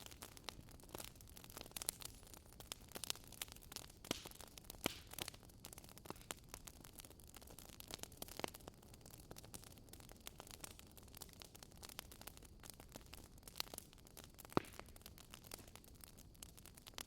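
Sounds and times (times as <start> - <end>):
wood fire crackling faintly: 0.0 - 17.0.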